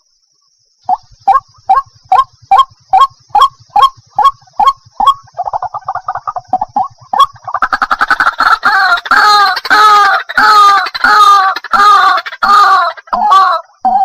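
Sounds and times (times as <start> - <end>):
waterhen calling: 0.8 - 14.0.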